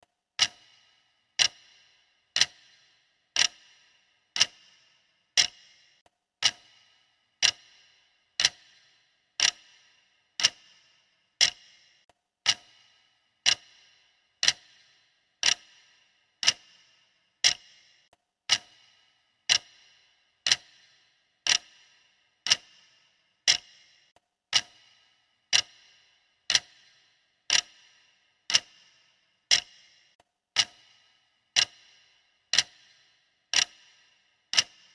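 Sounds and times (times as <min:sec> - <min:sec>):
clock ticking: 0:00.4 - 0:34.9.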